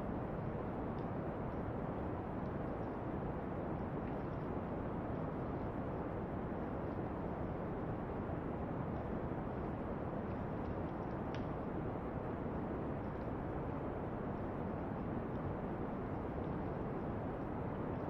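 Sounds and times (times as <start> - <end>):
brown noise hiss: 0.0 - 18.0
campfire crackles: 0.2 - 18.0.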